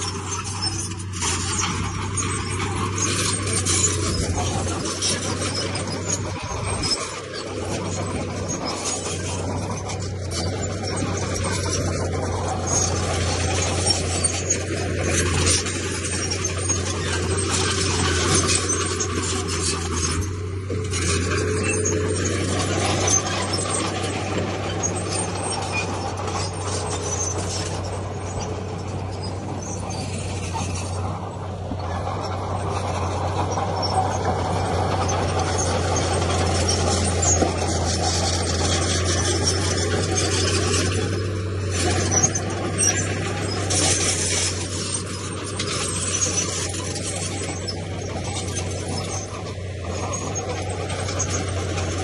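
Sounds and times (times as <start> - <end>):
diesel engine drone: 0.0 - 52.0
metallic clanking and squealing: 0.0 - 52.0.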